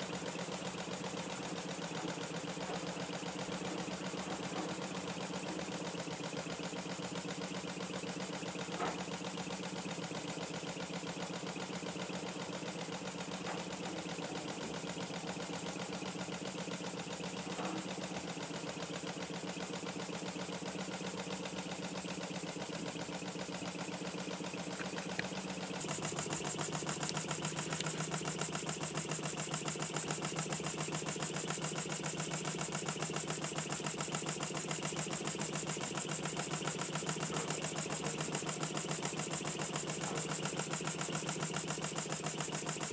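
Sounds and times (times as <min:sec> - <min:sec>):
model steam engine running: 0:00.0 - 0:42.9.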